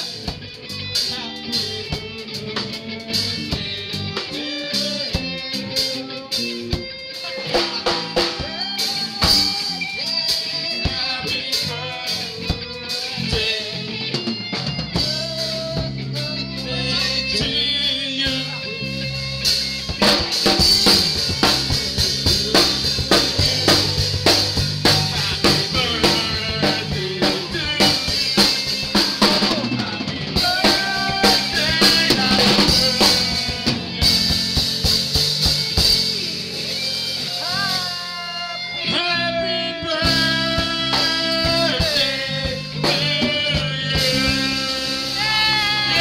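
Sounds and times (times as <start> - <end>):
drum kit: 0.0 - 38.7, 40.0 - 46.0
live rock band: 0.0 - 46.0.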